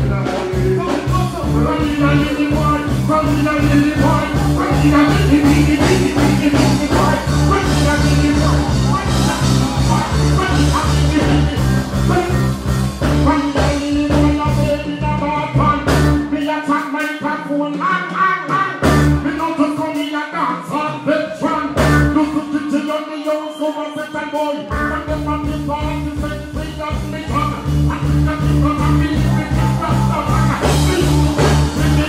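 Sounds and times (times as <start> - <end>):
bass line: 0.0 - 32.0
live band playing dancehall: 0.0 - 32.0
person vocalising on microphone: 0.0 - 32.0.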